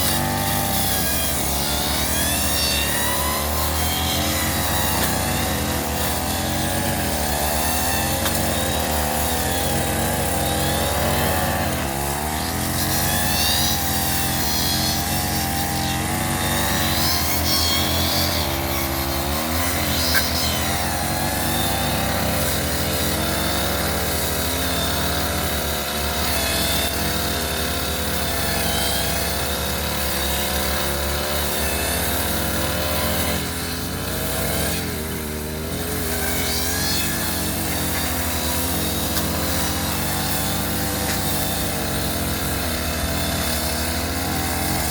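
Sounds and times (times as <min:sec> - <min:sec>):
brush cutter engine running: 0:00.0 - 0:44.9.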